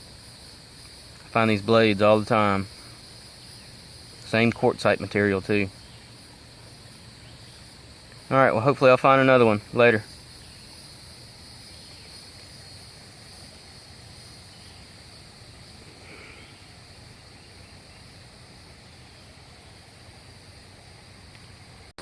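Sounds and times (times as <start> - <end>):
high-pitched insect chorus: 0.0 - 22.0
low background hiss: 0.0 - 22.0.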